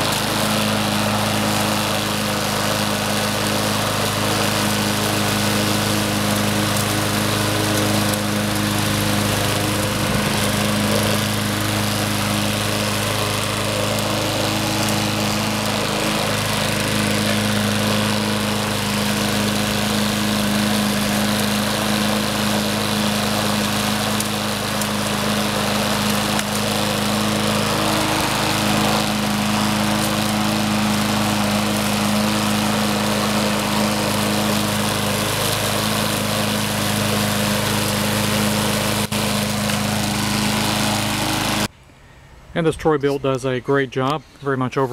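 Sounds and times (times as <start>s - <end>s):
lawn mower engine running: 0.0s - 41.8s.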